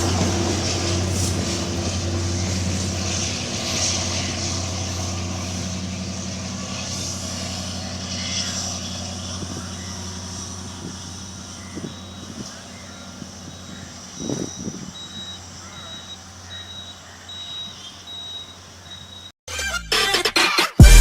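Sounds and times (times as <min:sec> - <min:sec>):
diesel engine humming: 0:00.0 - 0:19.3.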